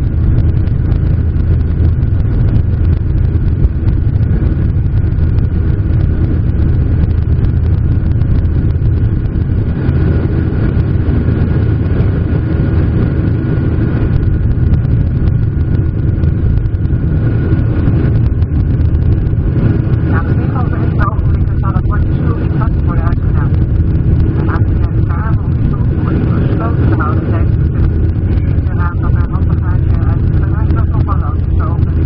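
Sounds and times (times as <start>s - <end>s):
jet engines rumbling in cabin: 0.0s - 32.0s
thin steady engine whine: 0.0s - 32.0s.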